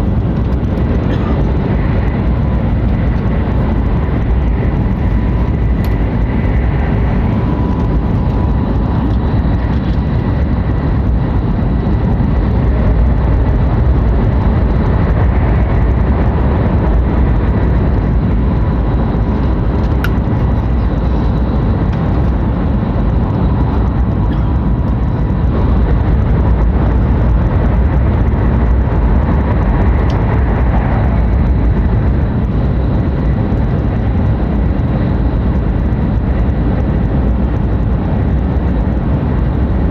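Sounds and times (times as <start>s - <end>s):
air noise: 0.0s - 39.9s
train wheels rumbling on rail: 0.0s - 39.9s.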